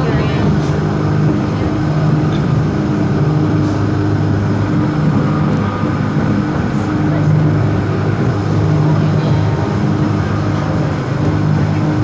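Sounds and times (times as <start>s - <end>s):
humming tones: 0.0s - 12.0s
train motor and wheels droning: 0.0s - 12.0s.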